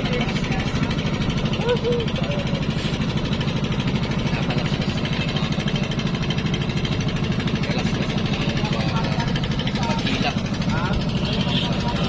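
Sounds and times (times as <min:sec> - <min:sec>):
boat engine pulsing steadily: 0:00.0 - 0:12.0.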